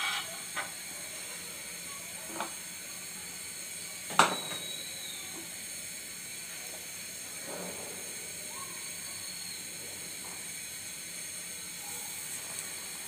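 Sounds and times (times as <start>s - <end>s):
faint sizzle: 0.0s - 13.0s
hot frying oil hissing: 0.0s - 13.0s.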